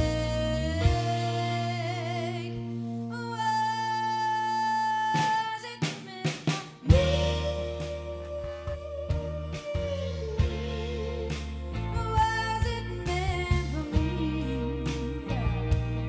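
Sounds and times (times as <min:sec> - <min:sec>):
rock soul band playing: 0:00.0 - 0:16.0.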